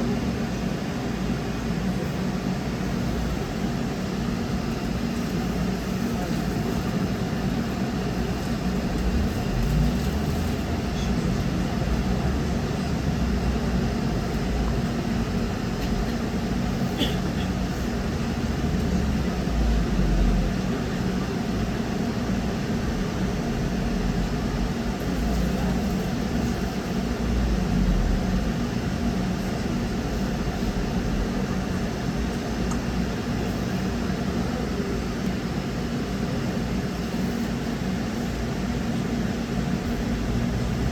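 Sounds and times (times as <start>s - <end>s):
trolleybus drive hum: 0.0s - 40.9s.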